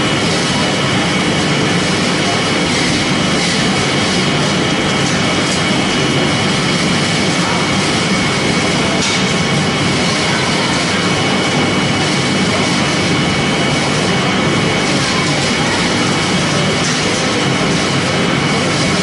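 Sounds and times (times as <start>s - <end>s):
crusher machine running: 0.0s - 19.0s.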